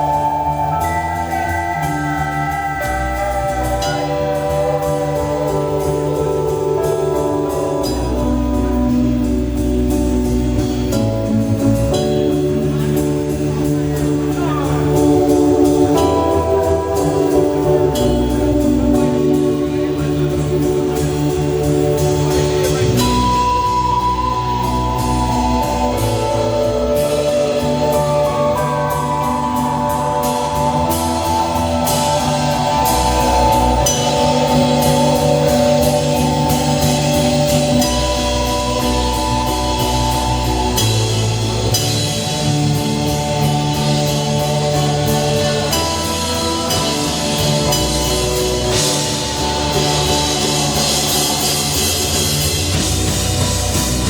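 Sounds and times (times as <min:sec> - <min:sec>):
bass line: 0:00.0 - 0:54.0
drum kit with cymbal hits: 0:00.0 - 0:54.0
sustained chords: 0:00.0 - 0:54.0.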